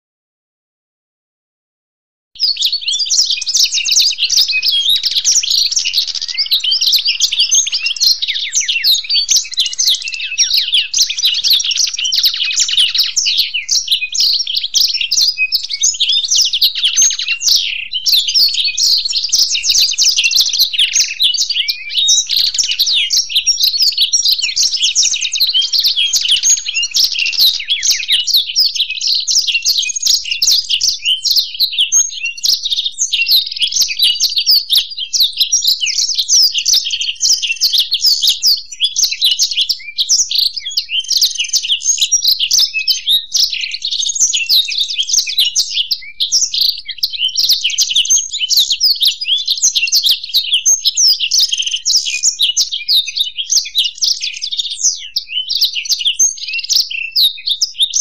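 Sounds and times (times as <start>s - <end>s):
birds twittering trills: 2.4s - 58.0s.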